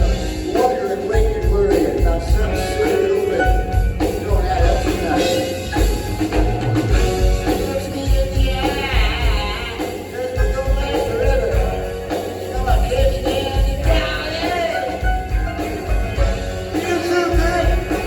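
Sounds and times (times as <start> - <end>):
electric guitars: 0.0 - 18.0
person singing: 0.0 - 18.0.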